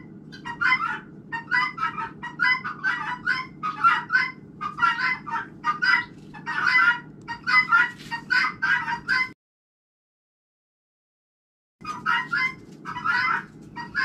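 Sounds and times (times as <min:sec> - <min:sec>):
chickens calling: 0:00.0 - 0:09.4, 0:11.8 - 0:14.0
steady low hum: 0:00.0 - 0:09.4, 0:11.8 - 0:14.0.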